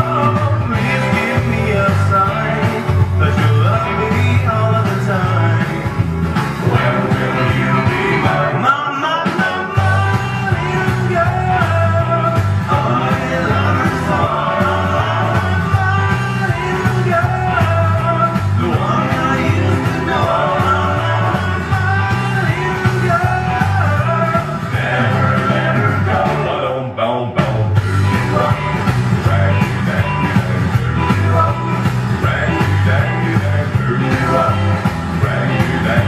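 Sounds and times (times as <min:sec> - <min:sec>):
rock and roll song: 0:00.0 - 0:36.0.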